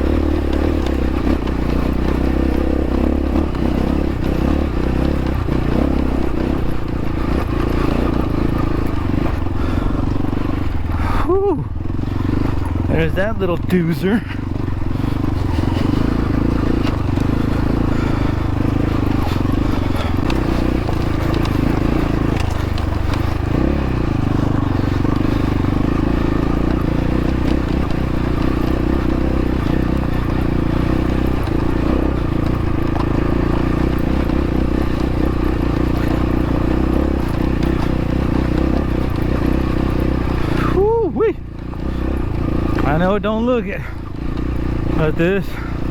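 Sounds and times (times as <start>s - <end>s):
dirt bike engine running: 0.0s - 45.9s.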